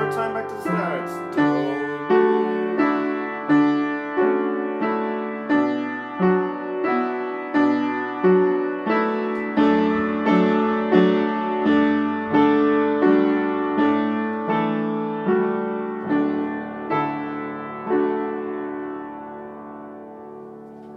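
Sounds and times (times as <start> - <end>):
upright piano chords: 0.0 - 20.9.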